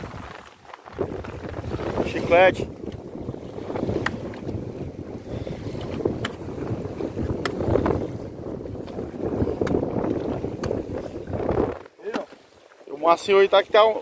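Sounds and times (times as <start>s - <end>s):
wind buffeting microphone: 0.0s - 12.0s
choppy sea water: 0.0s - 14.0s.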